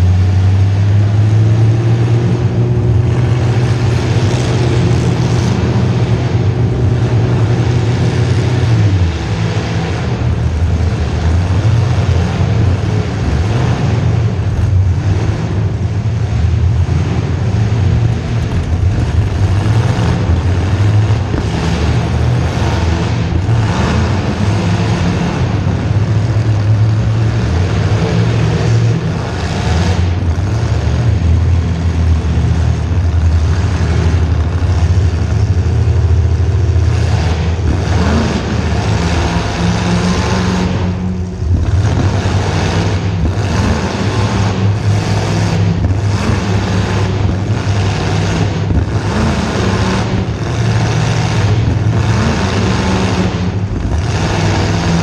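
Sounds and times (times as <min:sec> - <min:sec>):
loud car engine surging: 0:00.0 - 0:55.0.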